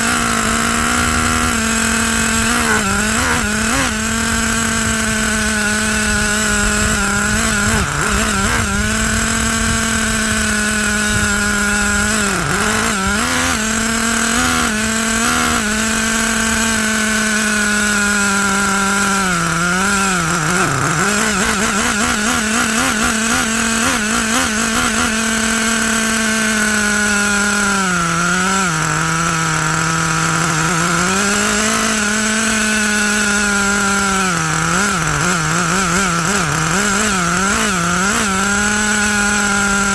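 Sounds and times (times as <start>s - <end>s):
nitro engine running high: 0.0s - 39.9s.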